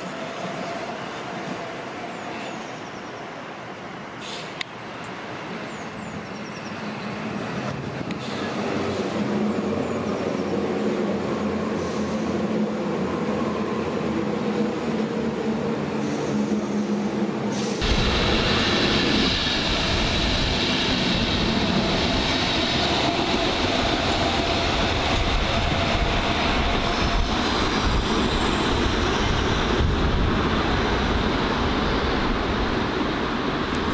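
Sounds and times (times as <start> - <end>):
train coaches rumbling past: 0.0 - 33.9
electric train humming: 6.7 - 33.9.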